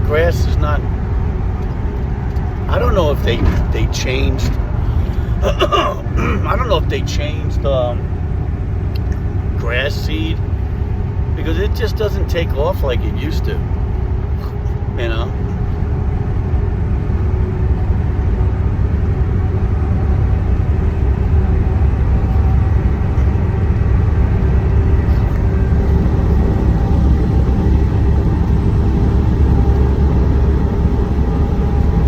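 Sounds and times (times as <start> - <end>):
truck engine and road rumble: 0.0 - 32.0.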